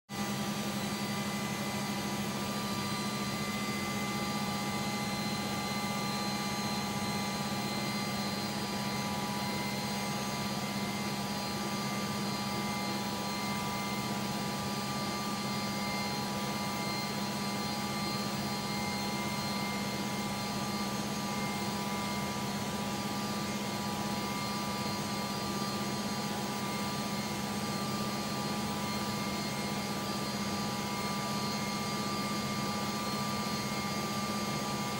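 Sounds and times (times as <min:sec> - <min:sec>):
helicopter rotor and turbine rush: 0:00.2 - 0:34.9
high engine whines: 0:00.2 - 0:34.9.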